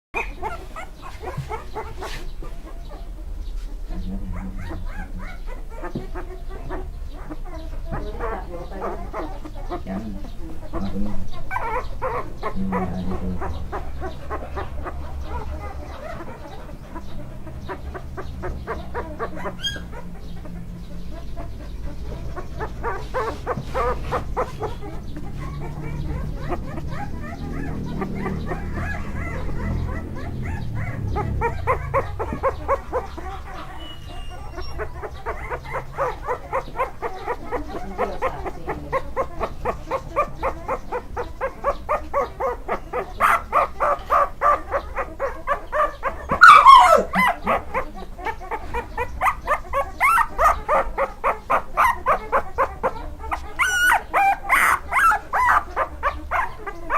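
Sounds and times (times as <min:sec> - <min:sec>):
puppies whimpering and yipping: 0:00.2 - 0:56.9.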